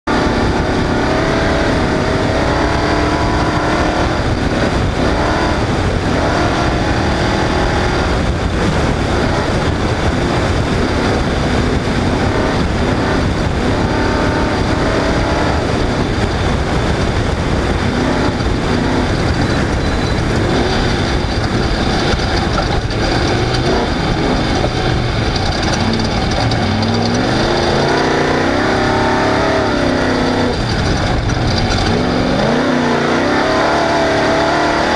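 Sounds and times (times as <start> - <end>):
race vehicle engine revving: 0.0 - 34.9
rush of vehicle noise: 0.0 - 34.9.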